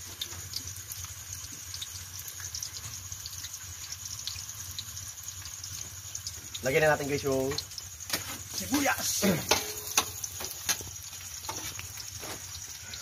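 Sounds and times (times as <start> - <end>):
garlic frying in hot oil: 0.0 - 13.0.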